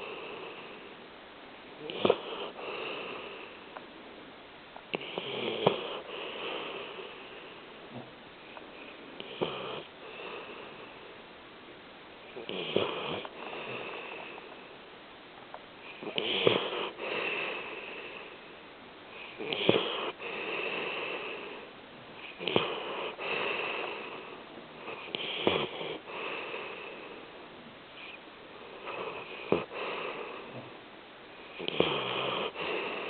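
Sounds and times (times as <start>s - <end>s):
pet snoring: 0.0s - 0.9s, 1.8s - 3.6s, 4.9s - 11.1s, 12.2s - 14.7s, 15.8s - 18.5s, 19.1s - 27.3s, 28.0s - 30.8s, 31.4s - 33.0s.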